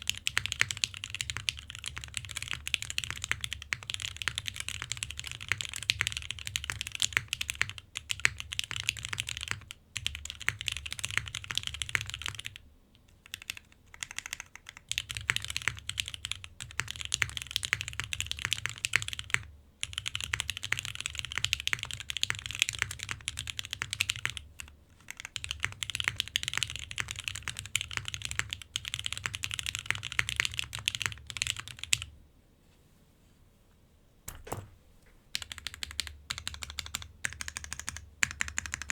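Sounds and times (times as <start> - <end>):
mechanical keyboard typing: 0.0 - 32.1, 35.3 - 38.9.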